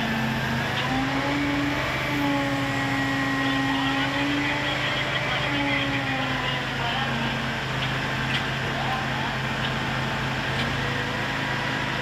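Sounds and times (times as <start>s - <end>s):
diesel engine droning hum: 0.0s - 12.0s.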